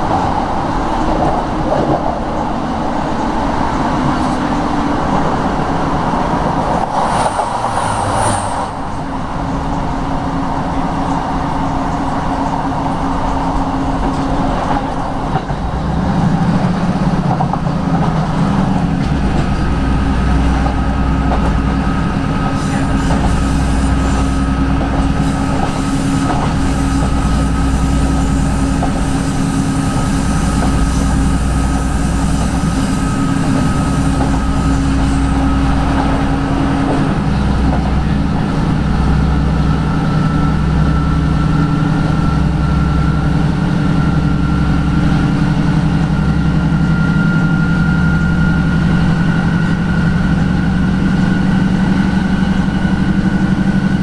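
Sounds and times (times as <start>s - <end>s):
train diesel engine drone: 0.0s - 54.0s
train wheels rumbling on rails: 0.0s - 54.0s.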